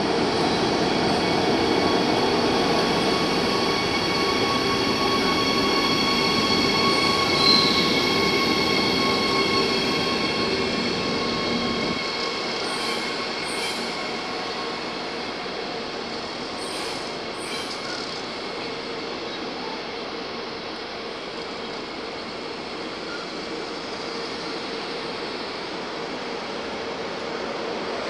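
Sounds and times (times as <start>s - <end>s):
high-pitched locomotive whine: 0.0s - 28.0s
brief train squeal: 0.4s - 28.0s.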